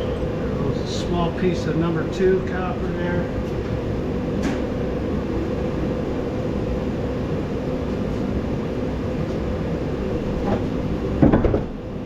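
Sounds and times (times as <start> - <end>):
machine drone with hum: 0.0 - 12.0.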